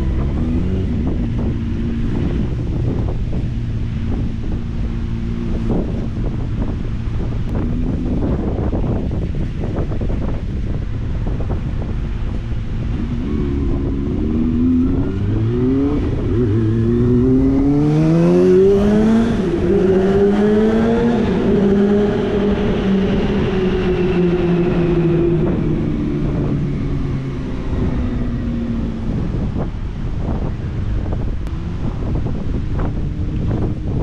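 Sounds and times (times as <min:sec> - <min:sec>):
motorcycle accelerating through gears: 0:00.0 - 0:34.0.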